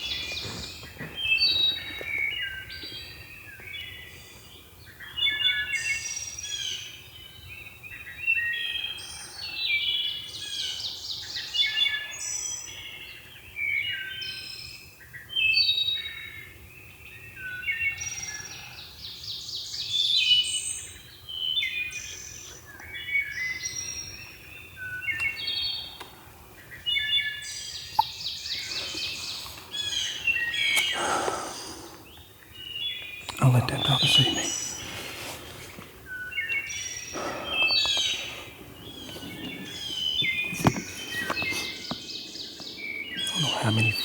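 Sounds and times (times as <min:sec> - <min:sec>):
songbirds singing and calling: 0:00.0 - 0:44.0.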